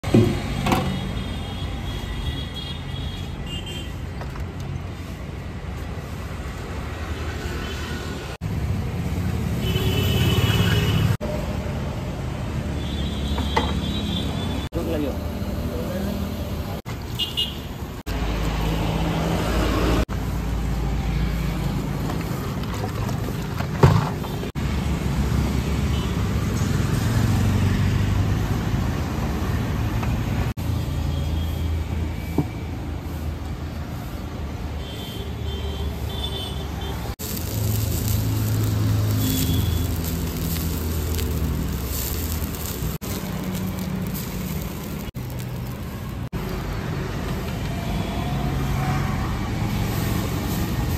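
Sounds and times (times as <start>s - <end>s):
road traffic passing: 0.0s - 50.9s.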